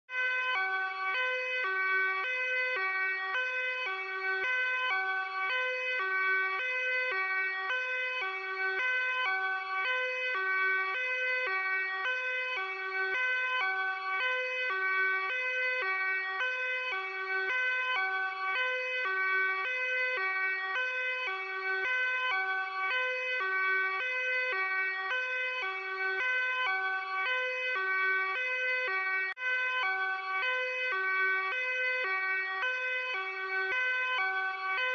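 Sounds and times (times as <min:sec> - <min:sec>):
police car two-tone siren: 0:00.1 - 0:34.9.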